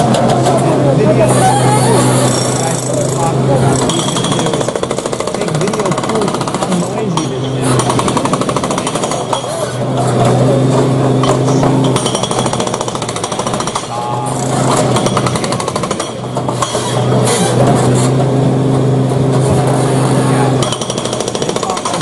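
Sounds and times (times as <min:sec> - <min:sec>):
hydraulic breaker hammering concrete: 0:00.0 - 0:22.0.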